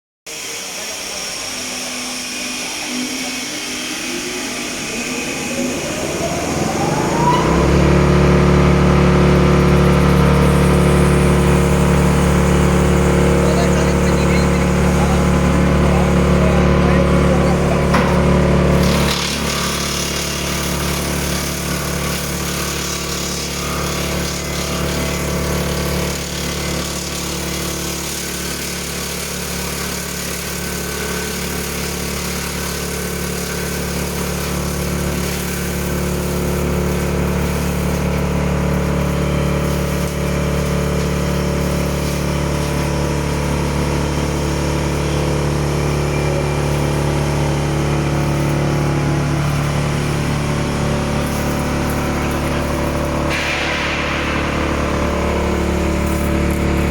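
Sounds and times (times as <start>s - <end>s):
wood chipper engine hum and hiss: 0.3s - 56.9s.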